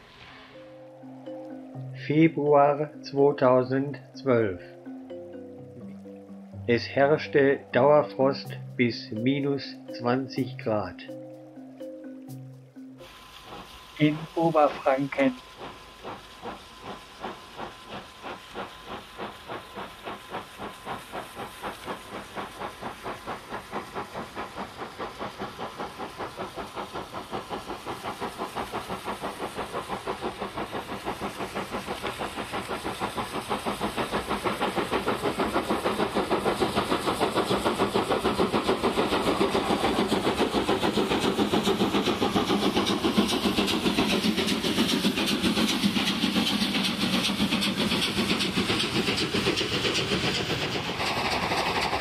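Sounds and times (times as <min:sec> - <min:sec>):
steam hiss: 0:00.0 - 0:52.0
steam locomotive chuffing: 0:00.0 - 0:52.0.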